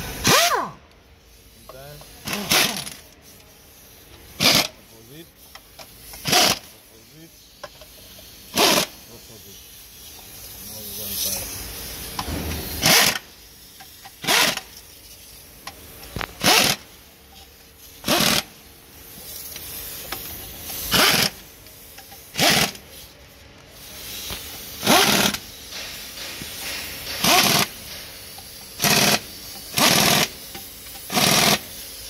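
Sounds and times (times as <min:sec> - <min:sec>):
pneumatic impact wrench hammering: 0:00.0 - 0:32.0.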